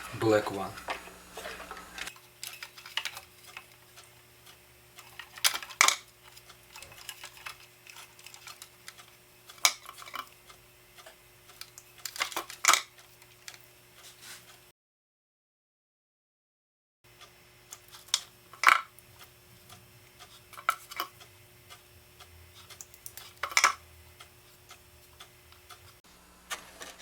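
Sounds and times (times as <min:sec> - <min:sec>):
faint electrical hum: 0:00.0 - 0:14.7, 0:17.1 - 0:27.0
small tools and wires clicking: 0:00.8 - 0:14.6, 0:17.1 - 0:27.0.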